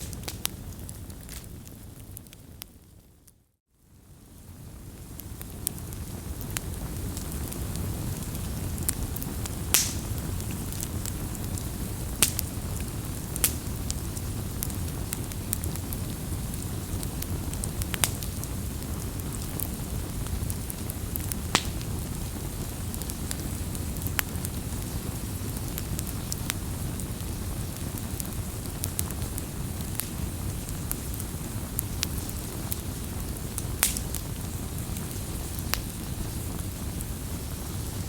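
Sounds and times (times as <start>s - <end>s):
wood crackling and popping: 0.0s - 3.4s, 5.0s - 38.0s
fire low rumble: 0.0s - 38.0s.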